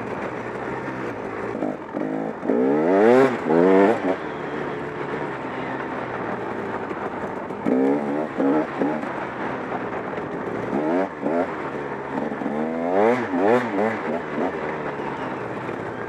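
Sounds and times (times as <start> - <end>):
two-stroke motorcycle engine revving: 0.0 - 16.0.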